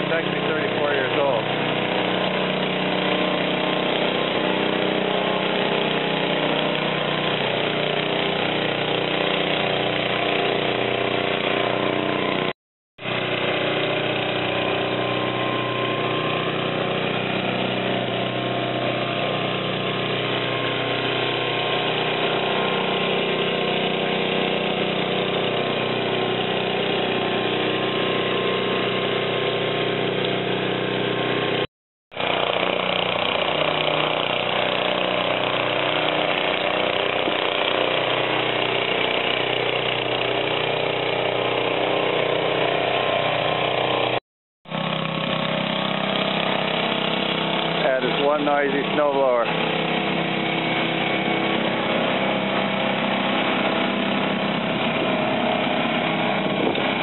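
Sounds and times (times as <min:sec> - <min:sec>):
snow thrower engine running: 0:00.0 - 0:57.0.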